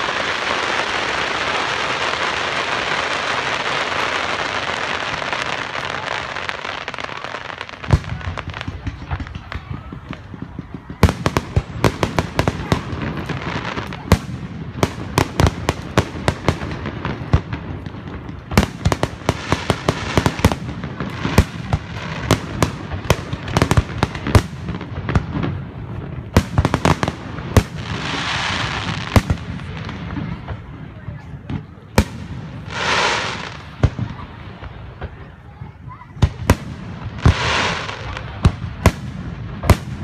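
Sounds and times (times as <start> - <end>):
hissing crackle of fireworks: 0.0 - 40.0.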